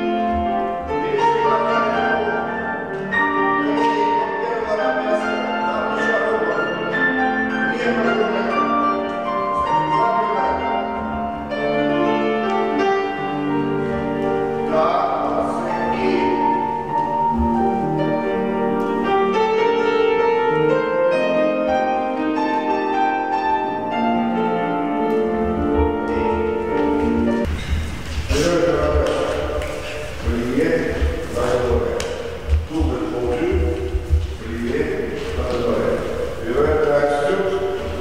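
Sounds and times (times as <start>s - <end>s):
grand piano playing: 0.0s - 38.0s.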